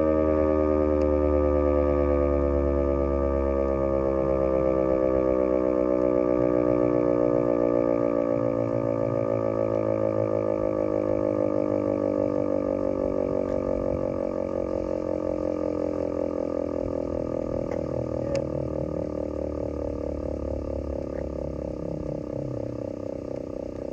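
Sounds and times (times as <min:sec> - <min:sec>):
warning siren winding down: 0:00.0 - 0:23.9.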